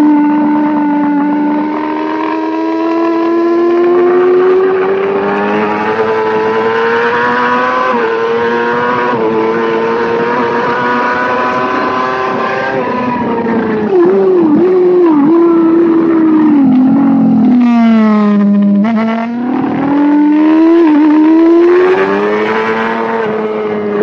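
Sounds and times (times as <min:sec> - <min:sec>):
racing motorcycle engine revving: 0:00.0 - 0:24.0.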